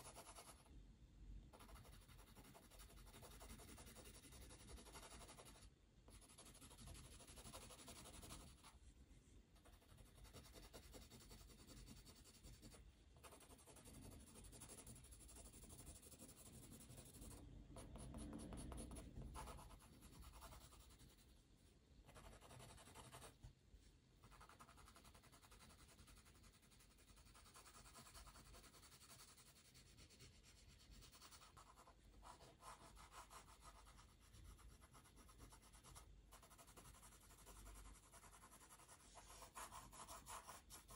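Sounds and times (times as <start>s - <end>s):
pencil strokes on paper: 0.0s - 0.7s, 1.5s - 8.8s, 9.6s - 21.4s, 22.1s - 23.4s, 24.2s - 40.9s.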